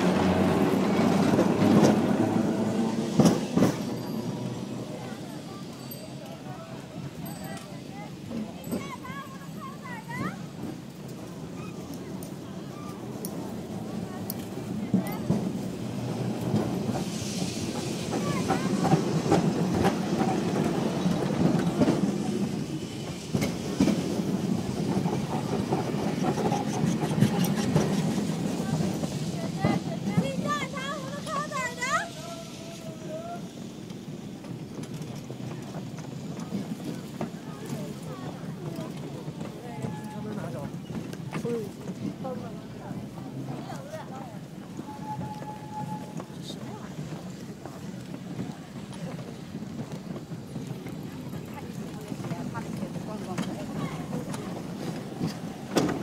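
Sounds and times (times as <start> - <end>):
street noise rumble: 0.0 - 56.0
tram passing on rails: 0.0 - 56.0
wheels clacking over track: 0.0 - 56.0.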